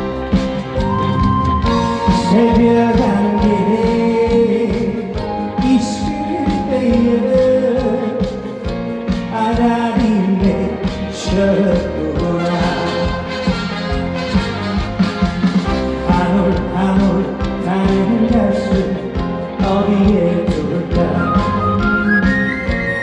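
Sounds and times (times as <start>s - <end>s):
person singing: 0.0s - 14.1s, 15.8s - 23.0s
band accompaniment: 0.0s - 23.0s.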